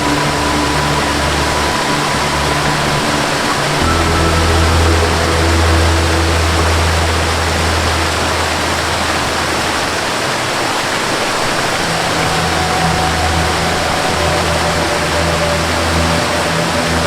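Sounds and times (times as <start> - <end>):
soft low melody notes: 0.0 - 10.7, 11.4 - 17.0
waterfall roaring: 0.0 - 17.0.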